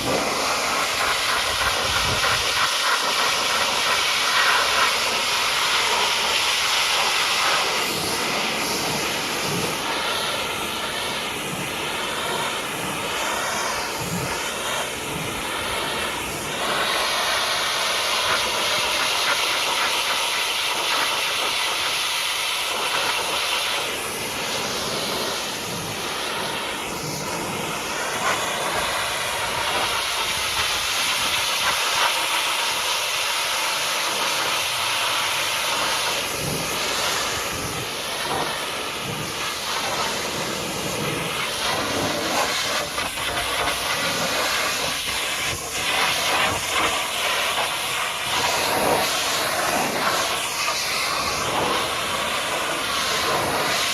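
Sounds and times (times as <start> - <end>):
pressure washer spraying water: 0.0 - 53.9.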